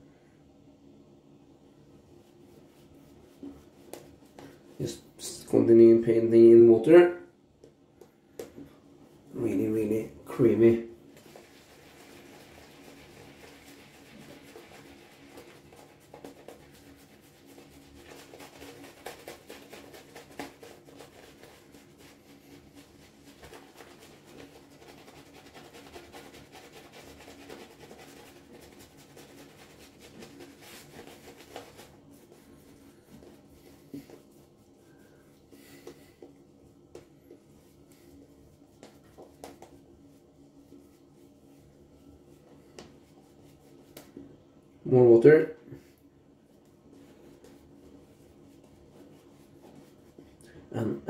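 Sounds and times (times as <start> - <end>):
shaving brush wet brushing: 2.0 - 6.3, 9.2 - 44.2, 46.4 - 50.6.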